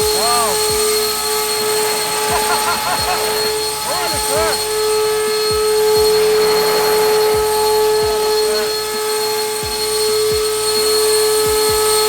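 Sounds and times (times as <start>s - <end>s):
electric ducted fans whine: 0.0s - 12.0s.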